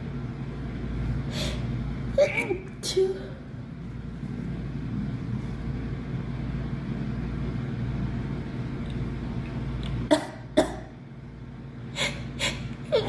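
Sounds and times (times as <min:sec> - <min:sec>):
faint even hum: 0:00.0 - 0:13.0.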